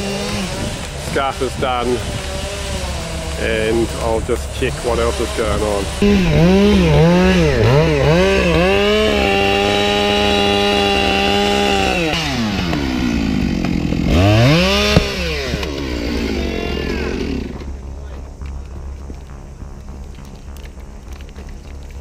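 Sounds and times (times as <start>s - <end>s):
chainsaw cutting into trunk: 0.0s - 17.8s
low engine hum: 0.0s - 22.0s.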